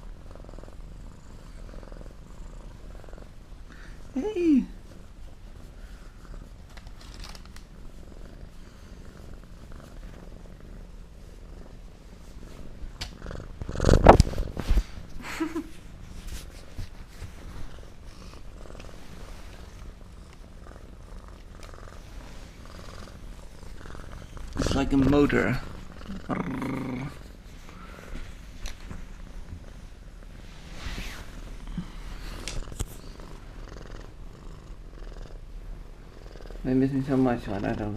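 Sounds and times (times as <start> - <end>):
cat purring: 0.0 - 37.9.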